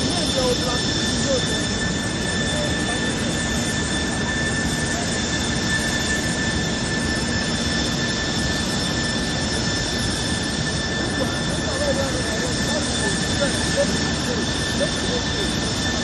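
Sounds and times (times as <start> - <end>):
jet engines roaring with whine: 0.0 - 16.0.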